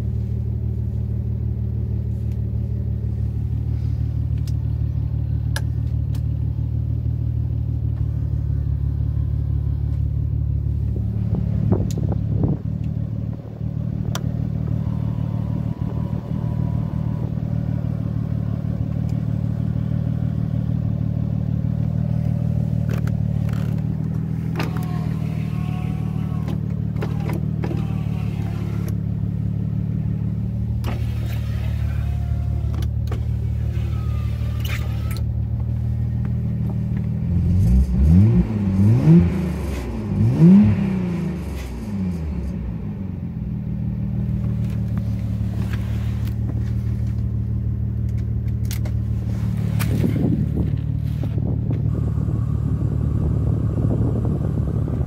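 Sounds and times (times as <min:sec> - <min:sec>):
car engine drone from cabin: 0:00.0 - 0:55.0.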